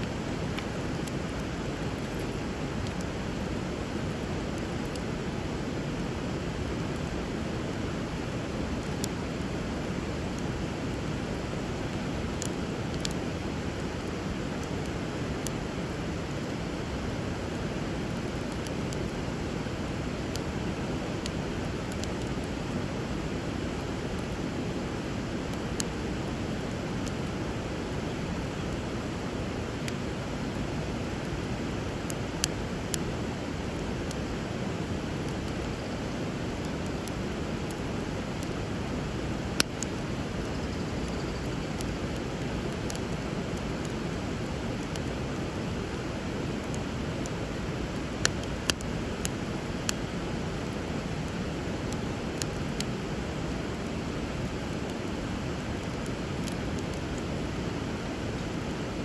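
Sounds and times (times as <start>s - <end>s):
wood fire popping: 0.0s - 58.6s.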